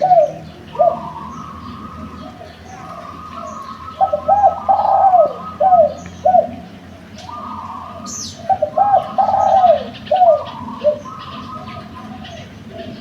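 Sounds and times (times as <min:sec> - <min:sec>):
dove cooing: 0:00.0 - 0:13.0
small birds chirping: 0:00.0 - 0:13.0.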